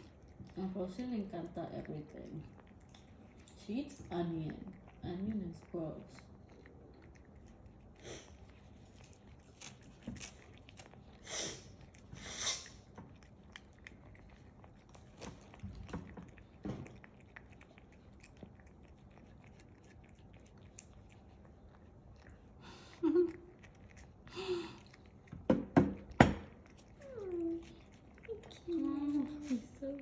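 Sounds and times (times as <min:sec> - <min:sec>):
cat chewing food: 0:00.0 - 0:30.0.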